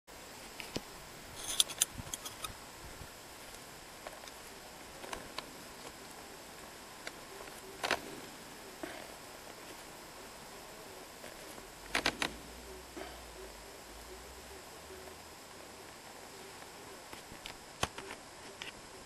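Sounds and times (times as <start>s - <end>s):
faint steady hiss: 0.1s - 19.0s.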